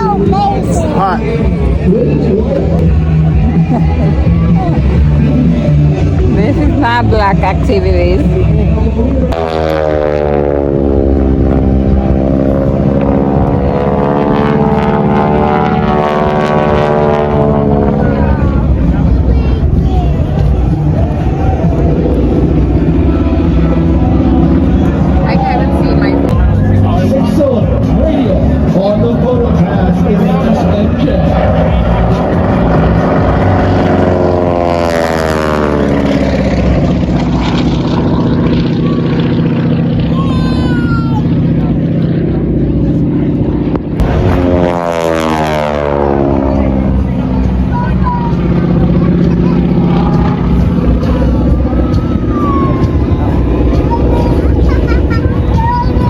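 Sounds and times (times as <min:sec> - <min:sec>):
propeller airplane engine: 0:00.0 - 0:56.0.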